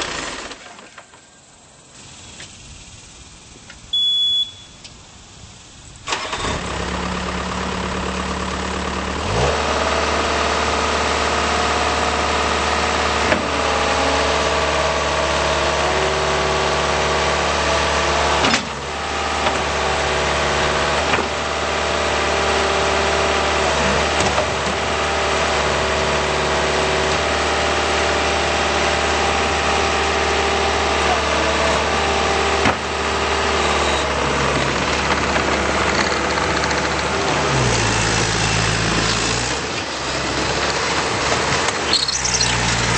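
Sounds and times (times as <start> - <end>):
diesel engine cranking and running: 0.0 - 4.0, 4.8 - 42.9.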